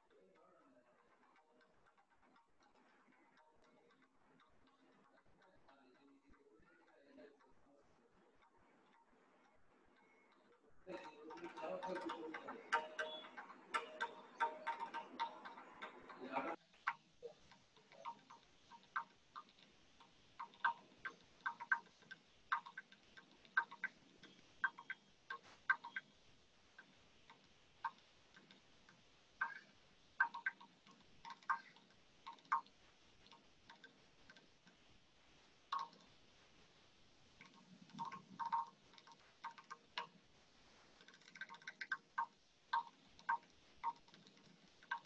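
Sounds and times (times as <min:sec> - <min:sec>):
faint irregular ticks: 0:00.0 - 0:45.0.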